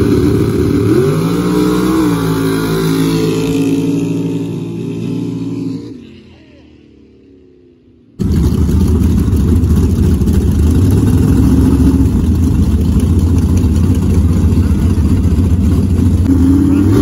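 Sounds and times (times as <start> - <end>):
faint engine: 0.0 - 17.0
truck engines rumbling loudly: 0.0 - 17.0.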